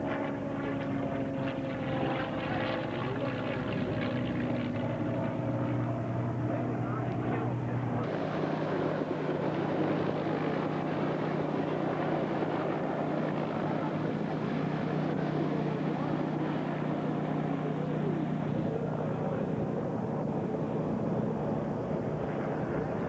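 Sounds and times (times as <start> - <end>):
helicopters flying overhead: 0.0 - 23.0.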